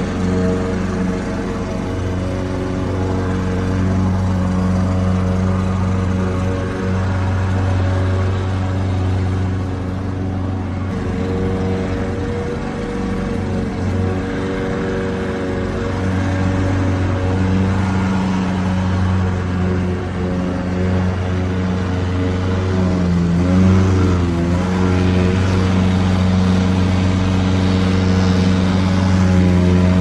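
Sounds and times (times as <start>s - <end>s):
lawnmower engine running: 0.0s - 30.0s.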